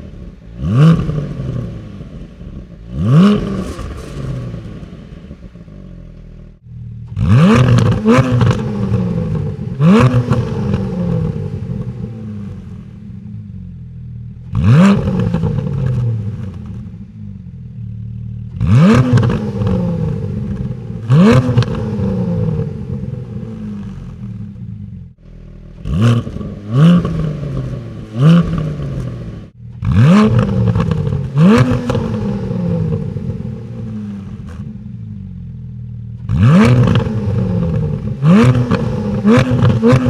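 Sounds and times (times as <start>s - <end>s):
car engine revving: 0.0s - 17.8s, 18.4s - 35.6s, 36.2s - 40.0s.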